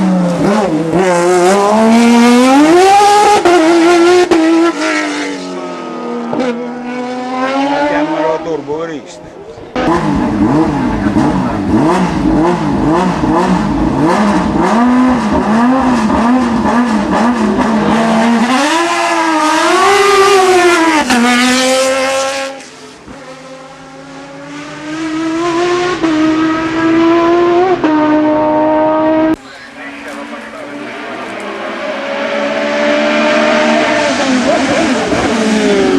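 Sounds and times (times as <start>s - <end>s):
race car engine revving: 0.0s - 8.7s, 9.7s - 35.9s.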